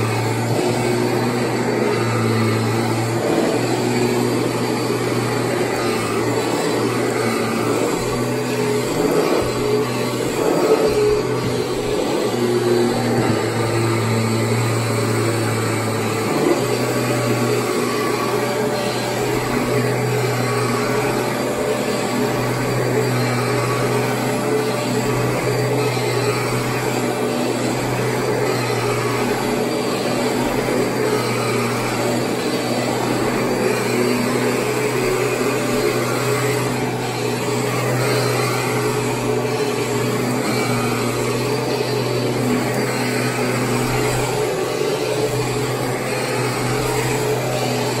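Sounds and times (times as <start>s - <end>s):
vacuum cleaner on carpet: 0.0s - 48.0s.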